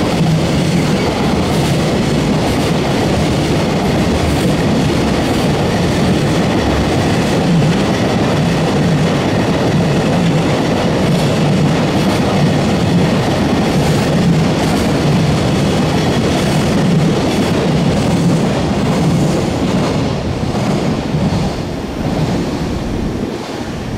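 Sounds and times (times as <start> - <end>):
clickety-clack over rail joints: 0.0 - 23.6
train wheels rumbling on rails: 0.0 - 23.9.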